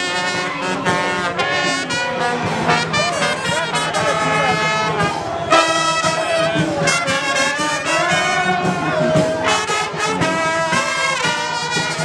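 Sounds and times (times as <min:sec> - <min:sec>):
brass band music: 0:00.0 - 0:12.0.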